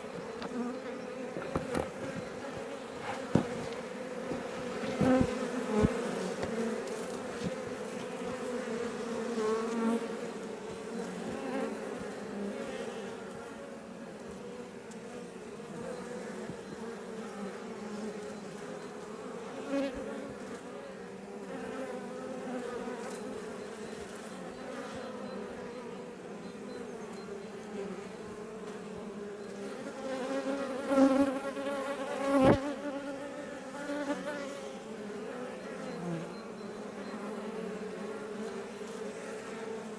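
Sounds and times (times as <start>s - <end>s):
bees buzzing around hive: 0.0s - 39.9s.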